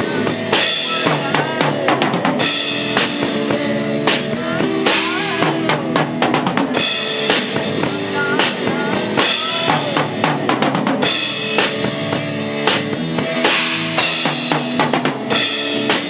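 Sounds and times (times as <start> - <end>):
band playing: 0.0 - 16.0
bass drum and snare strokes: 0.0 - 16.0.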